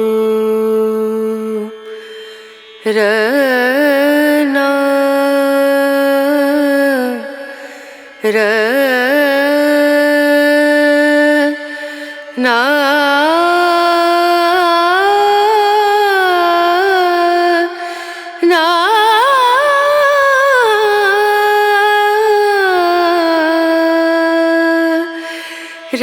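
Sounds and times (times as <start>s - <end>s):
person singing long ornamented notes: 0.0s - 26.0s.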